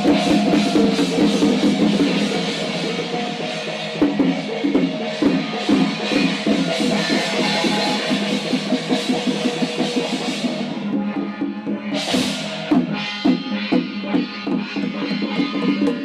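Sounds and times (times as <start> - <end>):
cymbals clashing: 0.0 - 16.0
drums beaten rapidly: 0.0 - 16.0.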